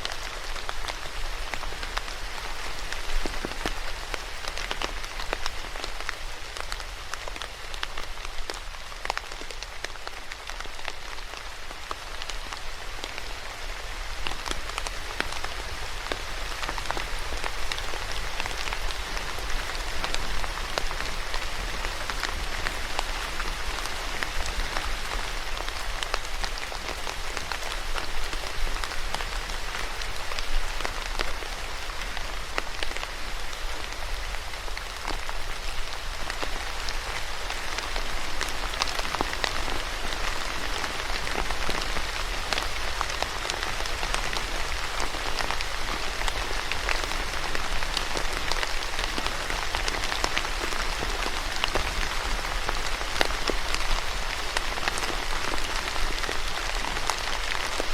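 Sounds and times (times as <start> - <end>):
rain pattering on a surface: 0.0 - 57.9.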